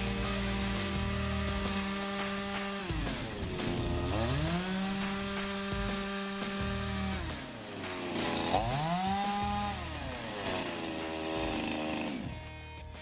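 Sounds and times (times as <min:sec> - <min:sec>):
chainsaw cutting wood: 0:00.0 - 0:12.8.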